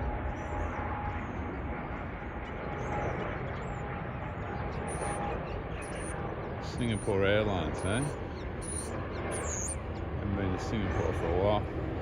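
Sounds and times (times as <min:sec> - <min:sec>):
jet airliner flying over: 0:00.0 - 0:12.0.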